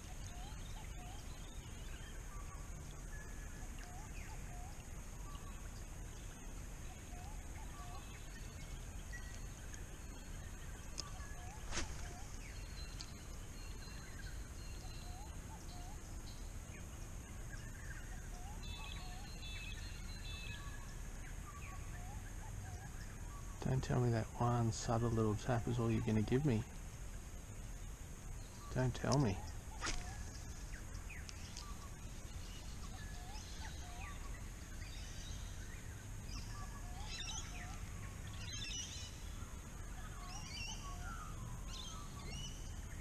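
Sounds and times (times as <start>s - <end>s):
birds chirping and whistling: 0.0s - 5.6s, 6.2s - 16.5s, 17.5s - 26.6s, 28.4s - 43.0s
steady high hiss: 0.0s - 43.0s.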